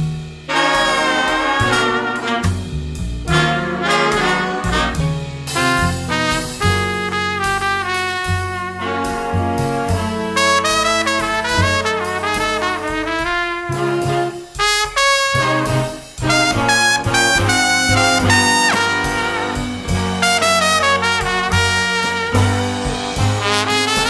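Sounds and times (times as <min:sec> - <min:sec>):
big band jazz with brass: 0:00.0 - 0:24.0.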